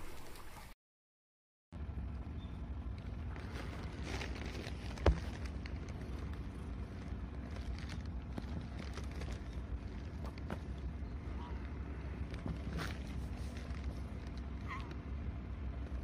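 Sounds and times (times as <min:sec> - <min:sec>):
low outdoor rumble: 0:01.8 - 0:16.0.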